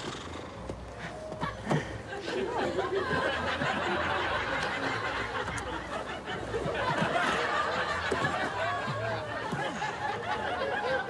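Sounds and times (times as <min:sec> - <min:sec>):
audience laughing: 0:01.3 - 0:11.0.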